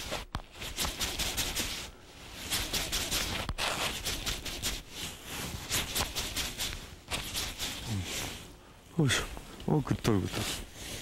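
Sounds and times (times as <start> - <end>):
waterproof suit rustling: 0.0 - 11.0.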